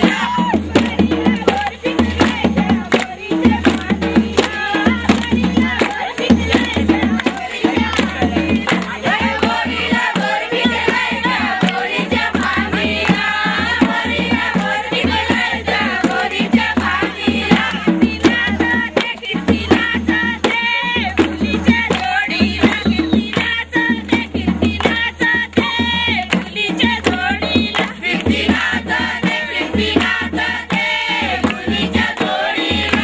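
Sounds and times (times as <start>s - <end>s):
drums and percussion: 0.0s - 33.0s.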